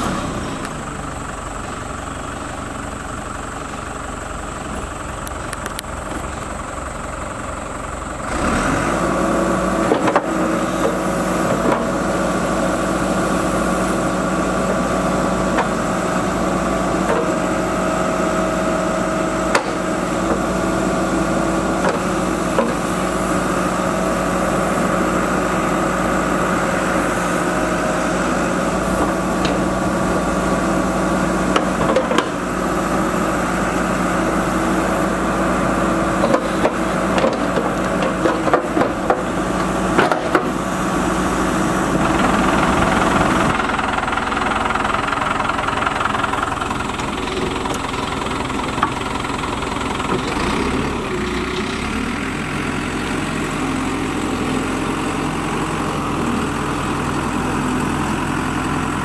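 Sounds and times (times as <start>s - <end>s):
backhoe diesel engine: 0.0s - 59.0s.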